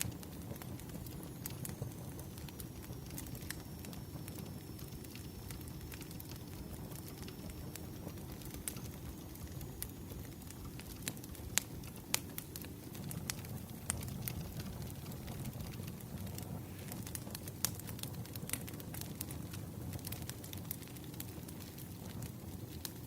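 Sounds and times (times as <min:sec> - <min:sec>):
sharp pops from fire: 0:00.0 - 0:23.0
wood fire crackling: 0:00.0 - 0:23.0.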